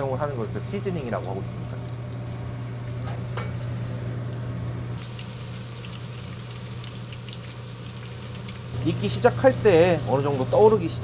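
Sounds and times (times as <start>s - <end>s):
oil bubbling and sizzling: 0.4s - 11.0s.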